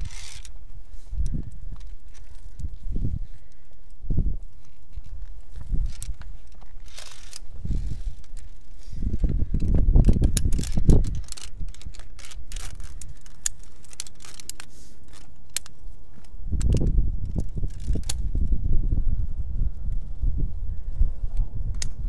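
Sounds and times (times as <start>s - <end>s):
climbing gear clicking on rock: 0.0s - 18.6s, 21.7s - 22.0s
wind rumbling on microphone: 0.0s - 22.0s.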